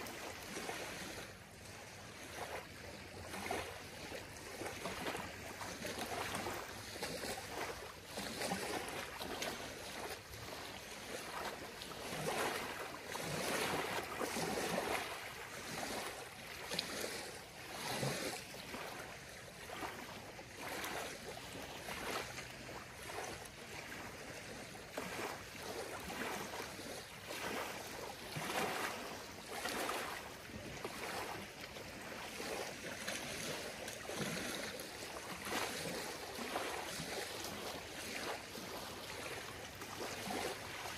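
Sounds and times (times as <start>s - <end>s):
ripples lapping on gravel shore: 0.0s - 40.9s.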